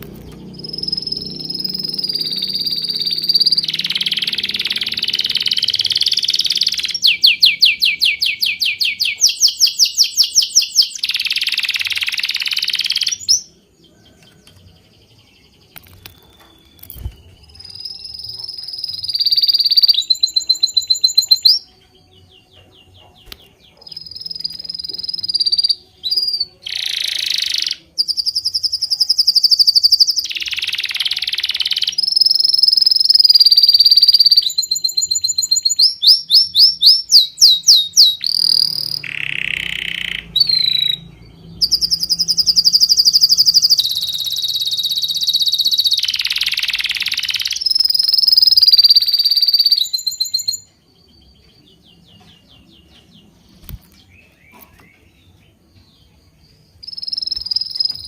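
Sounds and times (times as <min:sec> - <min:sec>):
birds singing: 0:00.0 - 0:58.0.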